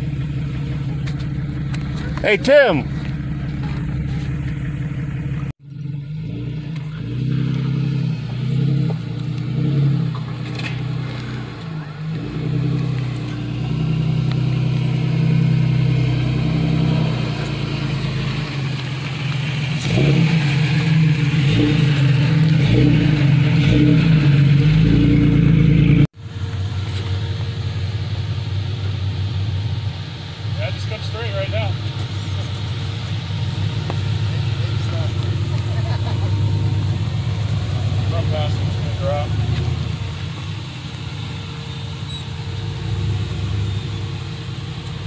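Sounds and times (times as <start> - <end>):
engine revving unevenly: 0.0 - 45.0.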